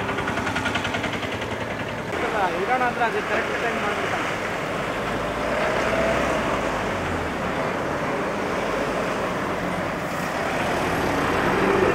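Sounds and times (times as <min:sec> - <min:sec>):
road traffic passing: 0:00.0 - 0:11.9
truck rolling by: 0:00.0 - 0:11.9.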